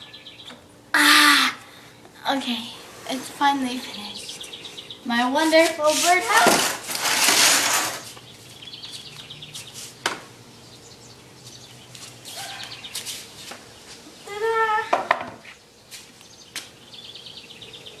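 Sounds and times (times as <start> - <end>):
small birds chirping: 0.0 - 0.7, 2.0 - 6.4, 8.1 - 18.0.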